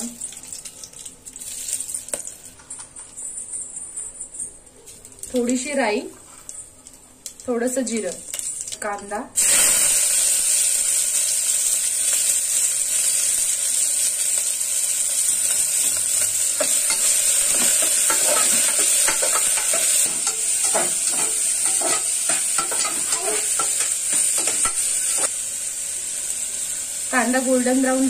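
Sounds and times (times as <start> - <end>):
onion sizzling in oil: 0.0 - 2.7, 4.9 - 28.0.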